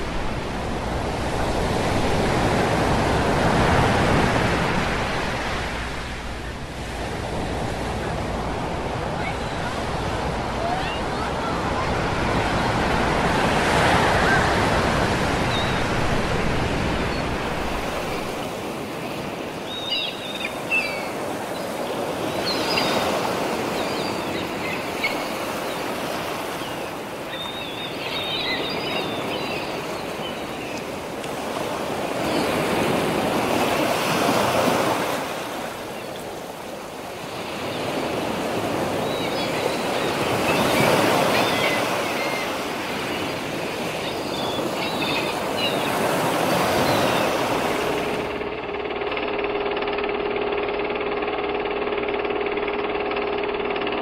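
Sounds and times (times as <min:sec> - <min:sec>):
sea waves breaking on beach: 0:00.0 - 0:49.1.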